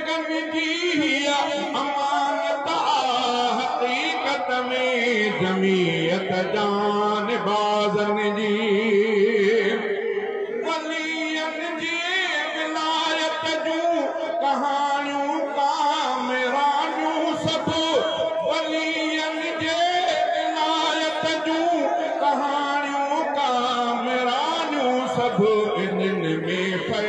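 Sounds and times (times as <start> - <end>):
man chanting over loudspeaker: 0.0 - 27.0.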